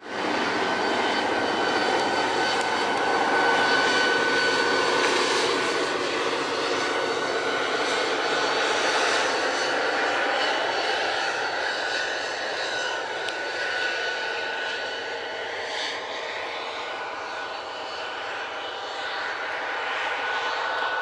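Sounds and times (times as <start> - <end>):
diesel locomotive engine: 0.0 - 21.0.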